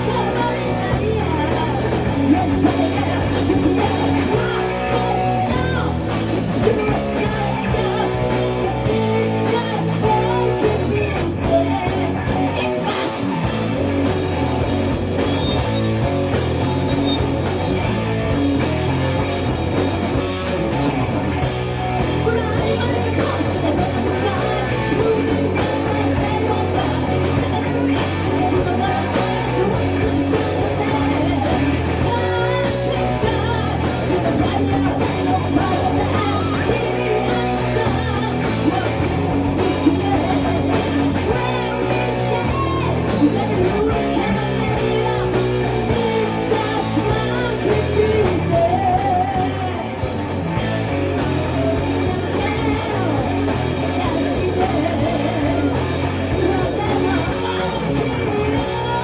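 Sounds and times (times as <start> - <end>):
drums: 0.0 - 59.0
electric guitar: 0.0 - 59.0
rock band playing: 0.0 - 59.0.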